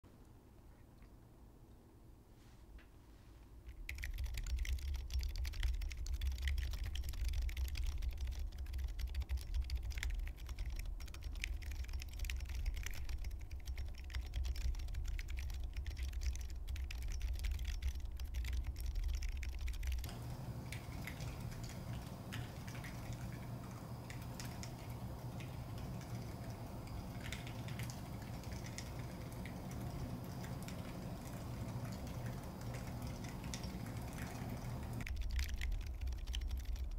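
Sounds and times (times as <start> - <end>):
soft keyboard keystrokes: 3.7 - 36.9.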